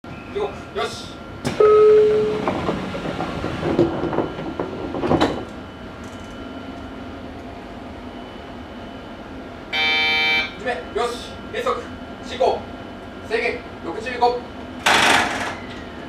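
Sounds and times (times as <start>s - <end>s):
electric train humming: 0.1s - 14.9s.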